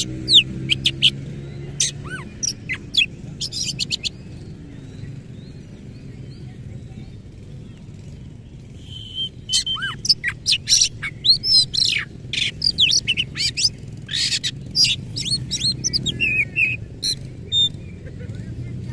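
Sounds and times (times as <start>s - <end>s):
bird singing: 0.0s - 18.2s.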